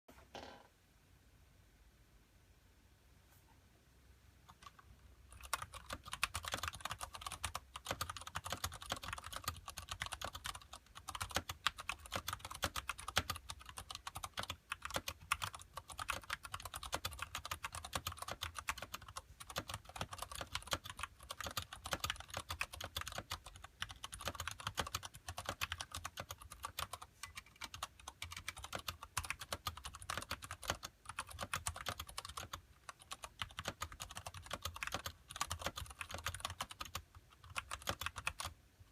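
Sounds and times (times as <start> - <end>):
mechanical keyboard typing: 4.5 - 38.6.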